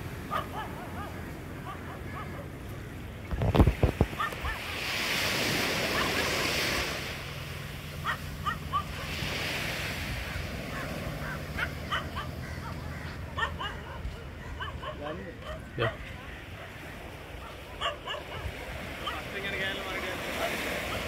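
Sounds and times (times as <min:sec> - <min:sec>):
ocean surf washing up a beach: 0:00.0 - 0:21.0.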